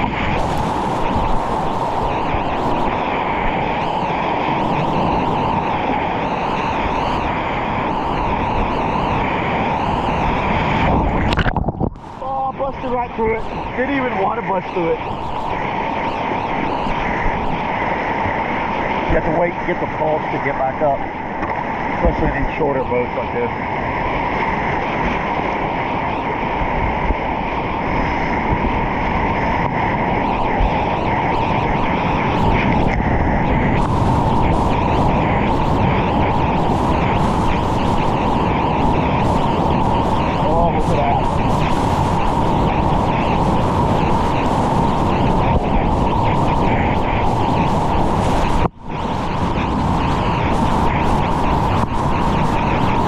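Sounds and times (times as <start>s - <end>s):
wind noise on microphone: 0.0s - 53.0s.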